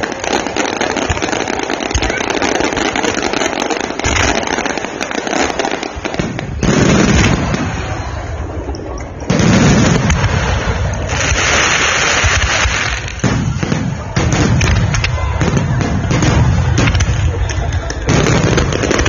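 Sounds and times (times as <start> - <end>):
heavy firework booms: 0.0 - 8.4, 9.3 - 19.0
firework crackling: 0.0 - 19.0.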